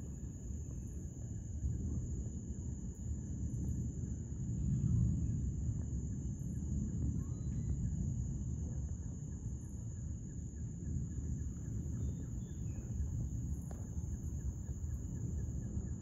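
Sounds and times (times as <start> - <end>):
night insects droning: 0.0 - 16.0.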